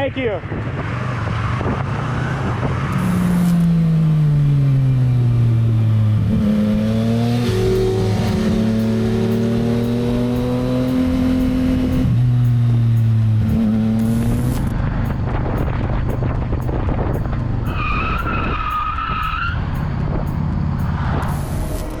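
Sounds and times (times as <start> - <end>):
motorcycle engine running: 3.0 - 22.0.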